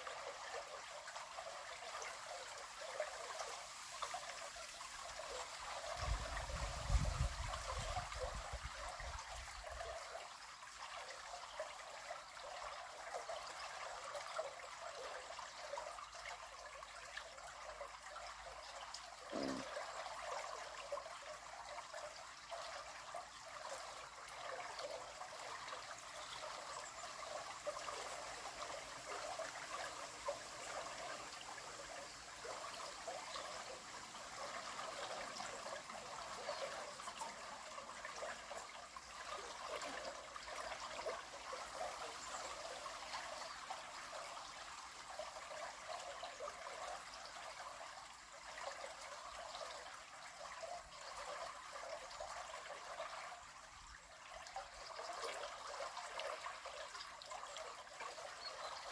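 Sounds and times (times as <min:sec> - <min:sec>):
river water flowing: 0:07.6 - 0:58.9.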